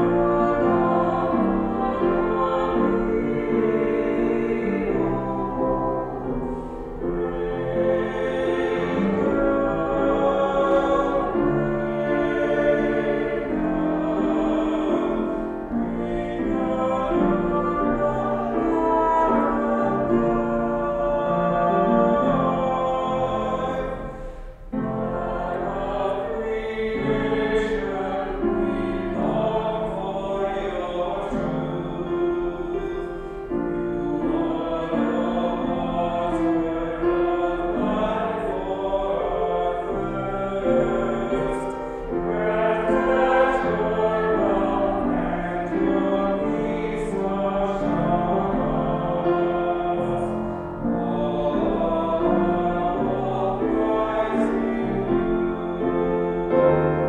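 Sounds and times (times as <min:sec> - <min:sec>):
vocal trio singing in harmony: 0:00.0 - 0:57.0.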